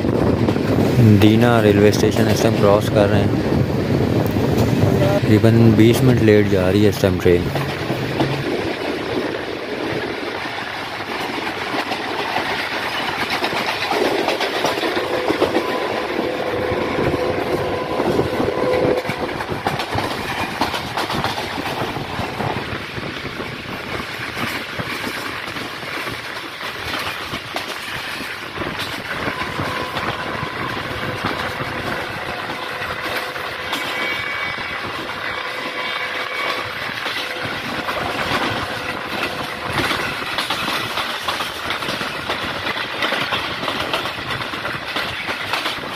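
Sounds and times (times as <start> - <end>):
wind rushing: 0.0 - 11.8, 13.6 - 45.1
train rumble: 0.0 - 45.9
train wheels clattering on rails: 0.0 - 45.9.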